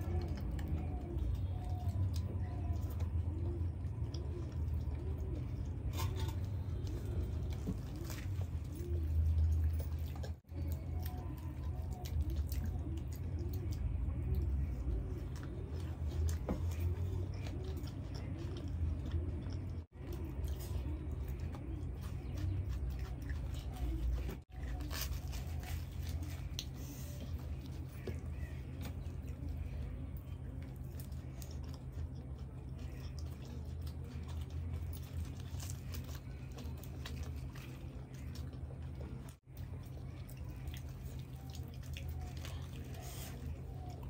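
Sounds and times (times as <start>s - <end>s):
chewing and wet mouth sounds: 0.0s - 44.0s.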